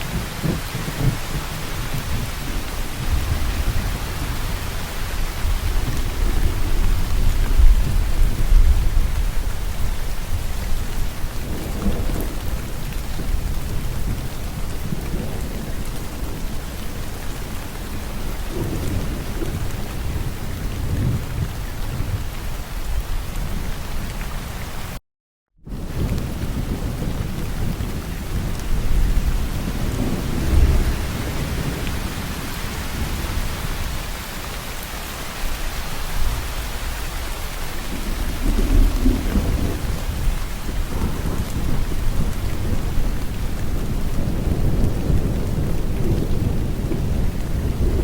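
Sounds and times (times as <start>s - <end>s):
deep rolling thunder: 0.0s - 23.8s, 25.7s - 34.5s, 35.5s - 48.0s
rain falling: 0.0s - 25.0s, 25.7s - 48.0s.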